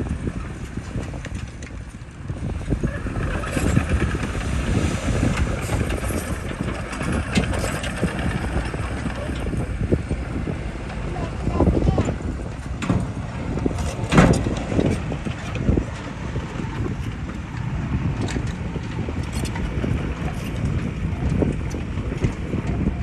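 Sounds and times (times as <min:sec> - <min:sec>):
bulldozer diesel engine rumble: 0:00.0 - 0:23.0.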